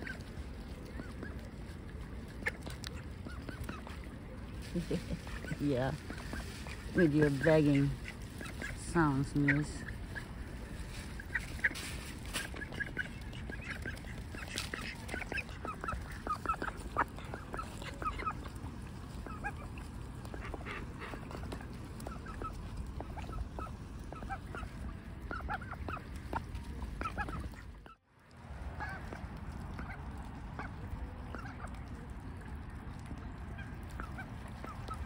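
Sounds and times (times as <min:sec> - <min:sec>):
ducks calling: 0:00.0 - 0:28.0, 0:33.4 - 0:35.0
low background noise: 0:00.0 - 0:35.0.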